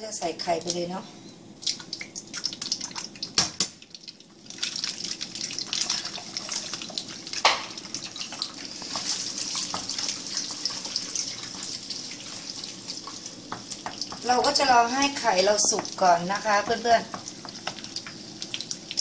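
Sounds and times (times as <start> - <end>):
egg sizzling in oil: 1.6 - 19.0.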